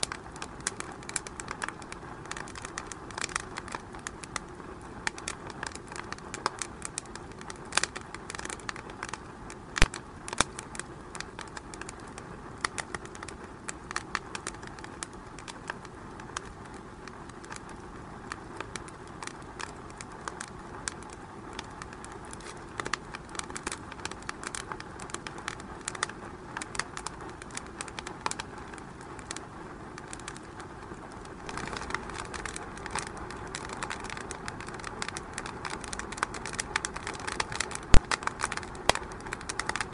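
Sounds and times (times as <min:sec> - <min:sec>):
hiss of flames: 0:00.0 - 0:39.9
wood fire crackling and popping: 0:00.0 - 0:39.9.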